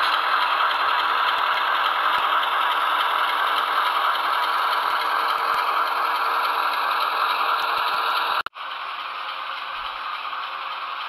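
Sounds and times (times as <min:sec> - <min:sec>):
diesel engine sound from small speaker: 0:00.0 - 0:11.0
model train wheels on track: 0:00.0 - 0:11.0.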